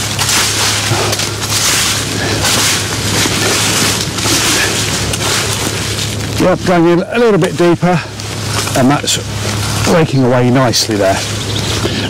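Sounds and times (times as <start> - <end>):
rake scraping through dry leaves: 0.0 - 12.0.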